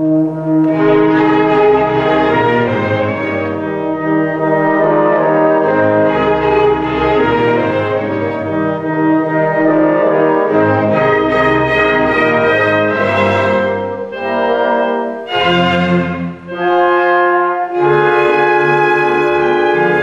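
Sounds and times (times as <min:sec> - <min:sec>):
orchestral music with brass: 0:00.0 - 0:20.0.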